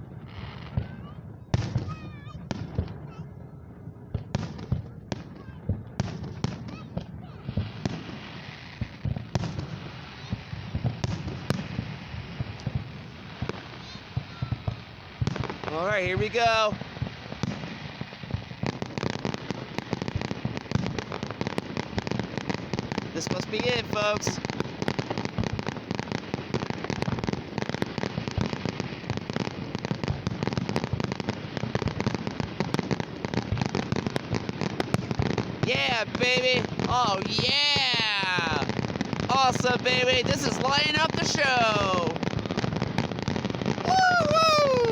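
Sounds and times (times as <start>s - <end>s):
fireworks bangs and pops: 0.0s - 44.9s.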